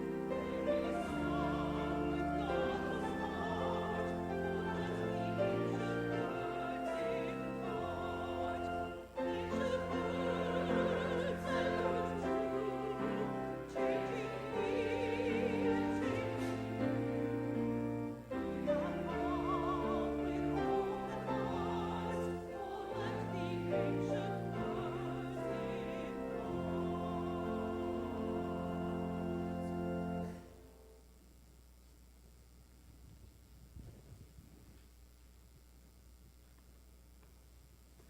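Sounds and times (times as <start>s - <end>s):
choral church singing with vibrato: 0.0s - 30.8s.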